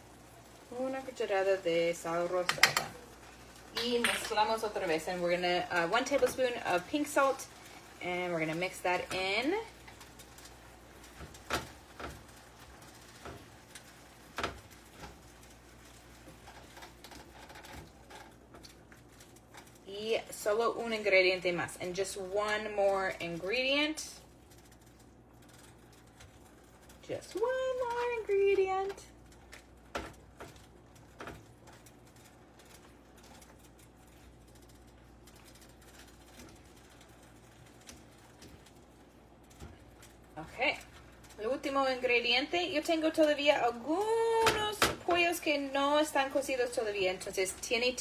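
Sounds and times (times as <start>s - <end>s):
chicken crackling in a pan: 0.0s - 48.0s.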